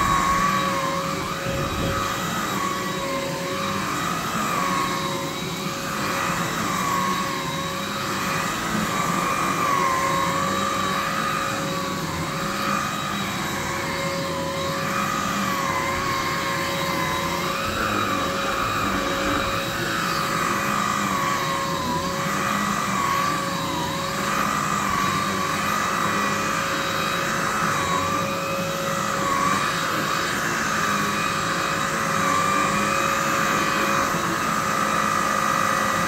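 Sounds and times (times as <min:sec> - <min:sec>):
vacuum cleaner motor whine: 0:00.0 - 0:36.0.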